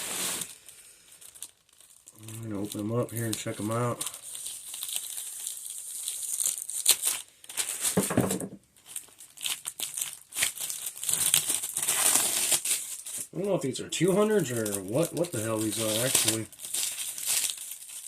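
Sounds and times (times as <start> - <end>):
packaging crinkling and tearing: 0.0 - 18.0.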